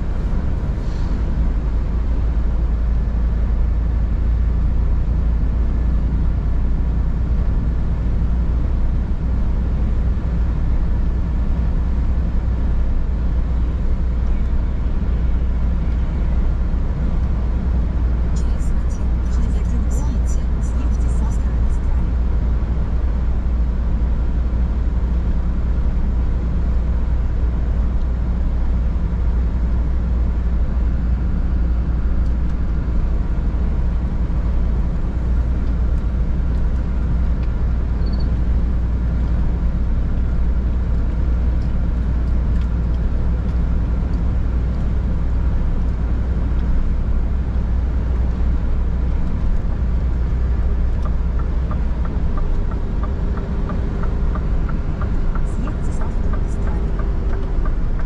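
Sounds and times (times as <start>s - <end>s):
diesel truck engine droning: 0.0s - 58.0s
road noise: 0.0s - 58.0s.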